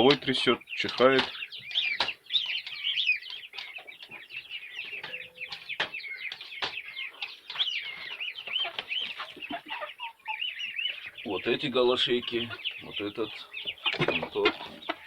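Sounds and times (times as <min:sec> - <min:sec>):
chicks peeping and clucking: 0:00.0 - 0:15.0.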